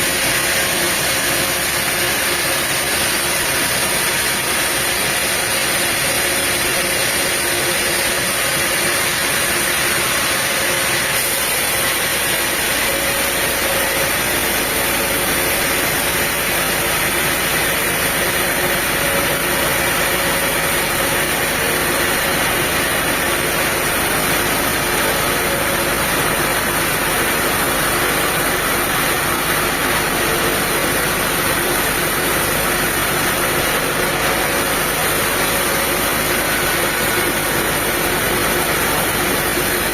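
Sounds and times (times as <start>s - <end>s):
diesel engine of machinery running: 0.0s - 39.9s.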